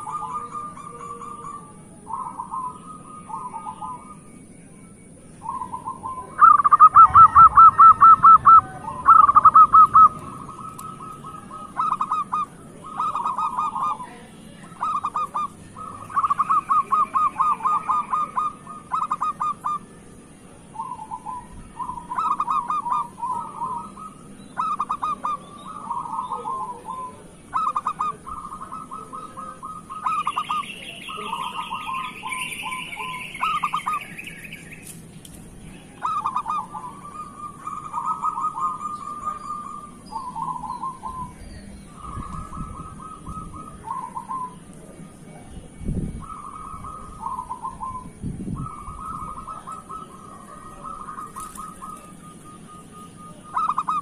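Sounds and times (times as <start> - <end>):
dove cooing: 0.0 - 4.4, 5.1 - 34.6, 35.8 - 45.0, 46.2 - 54.0
faint high chirping: 0.0 - 54.0.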